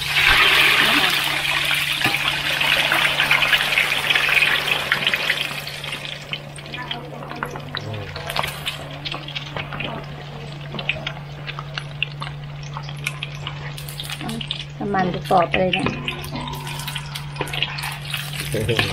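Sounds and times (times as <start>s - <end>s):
eggs deep-frying in oil: 0.0s - 18.9s
oil crackling and popping: 0.0s - 18.9s.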